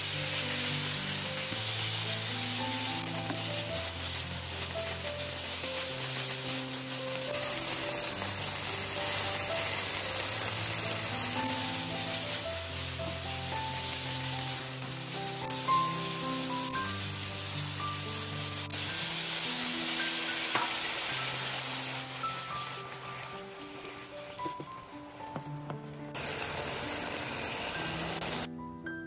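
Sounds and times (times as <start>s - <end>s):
continuous hiss: 0.0s - 28.6s.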